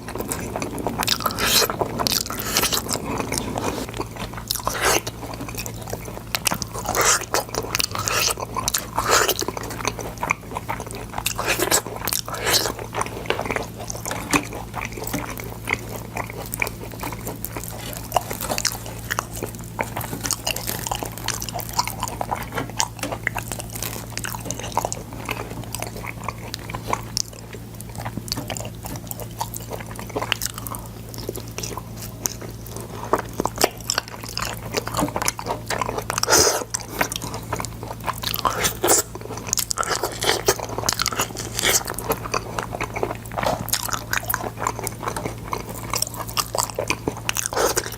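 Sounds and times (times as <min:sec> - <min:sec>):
low hum: 0:00.0 - 0:47.3
crunchy biting and chewing: 0:00.0 - 0:47.9.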